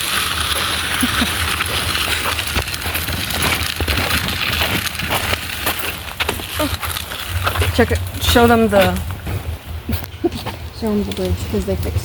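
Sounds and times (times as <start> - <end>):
footsteps on a trail: 0.0 - 12.0
wind buffeting microphone: 0.0 - 12.0.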